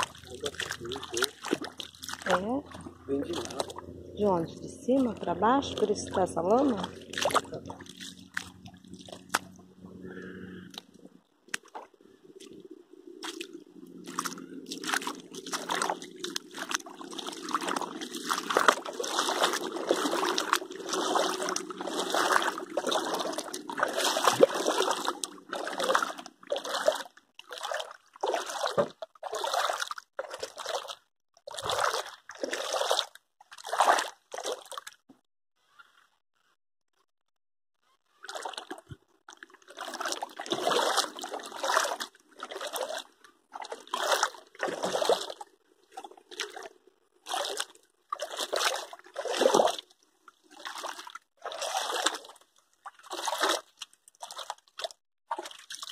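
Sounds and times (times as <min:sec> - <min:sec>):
short water splashes: 0:00.0 - 0:10.8, 0:11.5 - 0:35.0, 0:38.2 - 0:55.9
river water trickling and sloshing: 0:00.0 - 0:35.0, 0:38.2 - 0:55.9.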